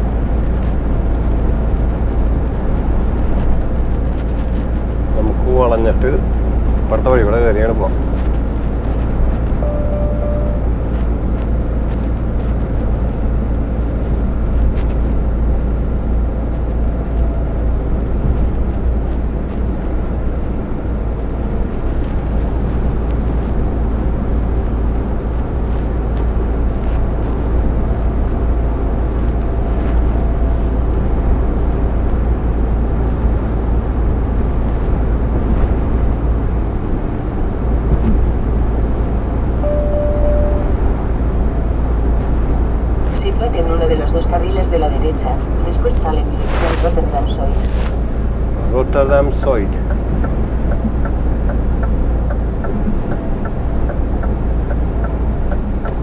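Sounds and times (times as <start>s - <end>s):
tyre and wind noise: 0.0s - 43.4s, 45.3s - 56.0s
lorry engine rumble: 0.0s - 56.0s.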